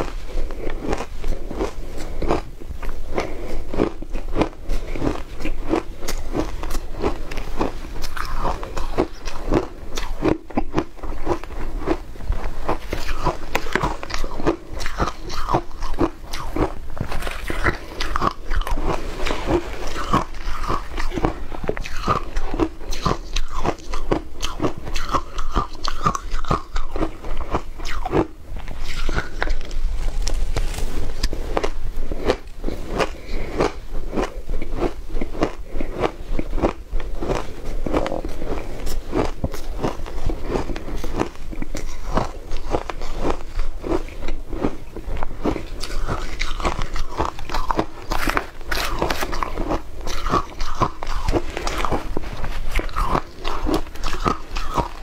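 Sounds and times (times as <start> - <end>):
crunching and chewing ice: 0.0 - 55.0.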